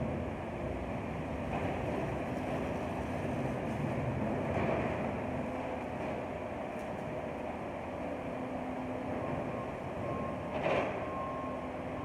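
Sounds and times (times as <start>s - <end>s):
diesel machinery noise: 0.0s - 12.0s.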